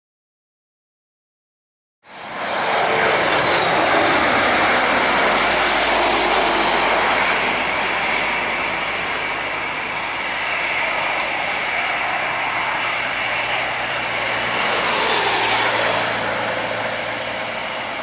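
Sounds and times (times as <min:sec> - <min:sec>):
high engine whine falling: 0:02.1 - 0:18.0
jet engines roaring: 0:02.1 - 0:18.0.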